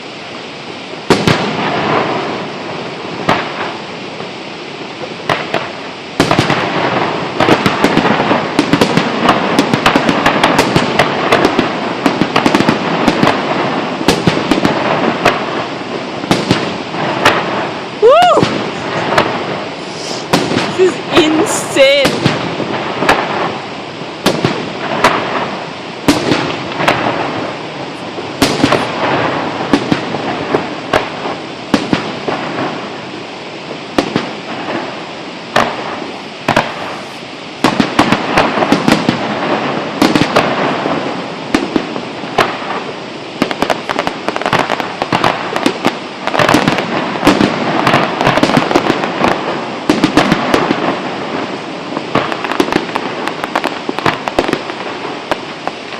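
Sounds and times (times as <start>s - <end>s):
fireworks crackling: 0.0s - 55.9s
firework shells bursting: 5.2s - 33.0s, 33.9s - 51.0s.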